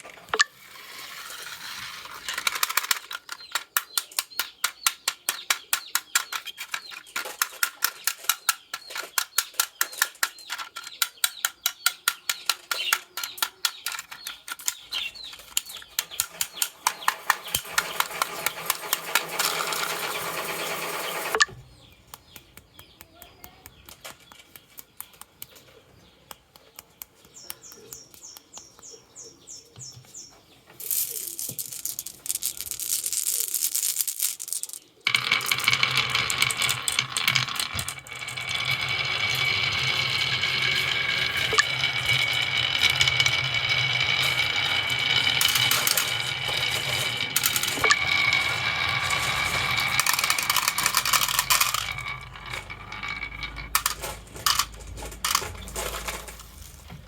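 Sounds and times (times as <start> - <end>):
marbles rolling rumble: 0.0 - 11.0, 12.4 - 21.5, 30.8 - 57.0
marbles clacking on a track: 0.0 - 21.6, 30.8 - 56.8.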